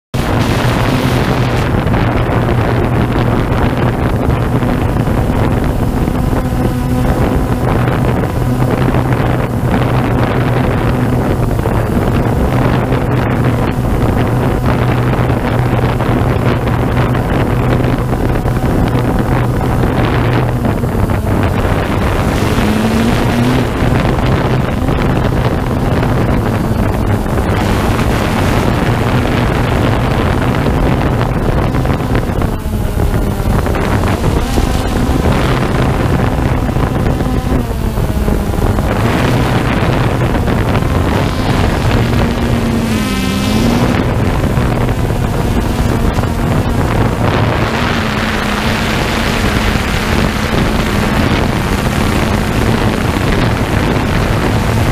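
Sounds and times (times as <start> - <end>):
drone propellers buzzing: 0.0 - 54.9
wind noise on microphone: 0.0 - 54.9.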